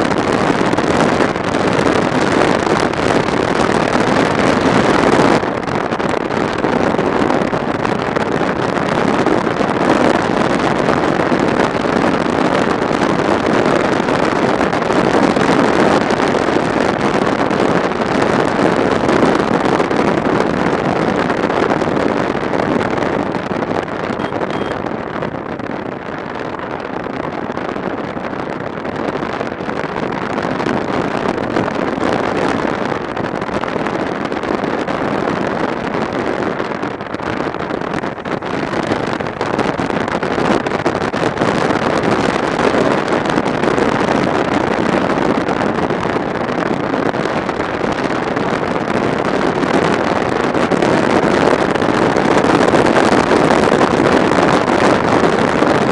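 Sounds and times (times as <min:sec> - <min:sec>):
wind roaring over microphone: 0:00.0 - 0:55.9.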